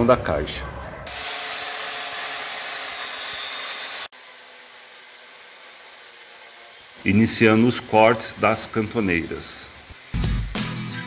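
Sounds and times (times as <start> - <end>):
angle grinder cutting steel: 1.1 - 11.0.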